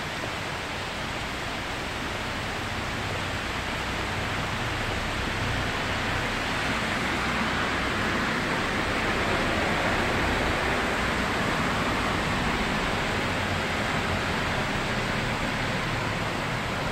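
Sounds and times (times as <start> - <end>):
steady rain hiss: 0.0 - 16.9.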